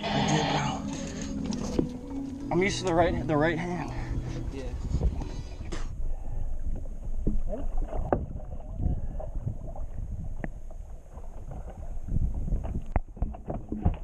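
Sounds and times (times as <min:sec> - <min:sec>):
water sloshing against boat hull: 0:00.0 - 0:14.0
wind on microphone: 0:02.7 - 0:14.0.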